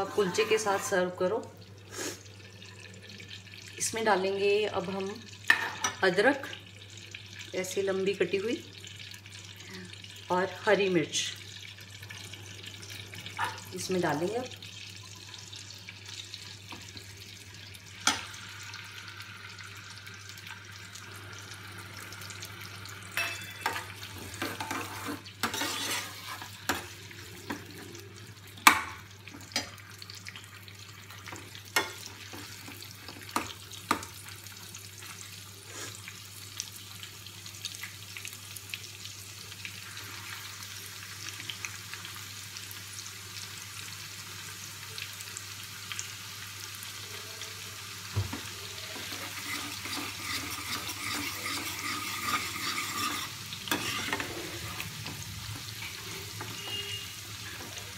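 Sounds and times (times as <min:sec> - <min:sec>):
food sizzling in hot fat: 0:00.0 - 0:57.9.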